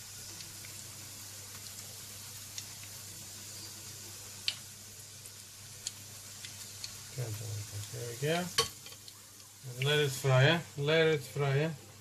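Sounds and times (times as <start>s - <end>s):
oil popping and crackling: 0.0s - 11.6s
chicken sizzling in frying pan: 0.0s - 12.0s.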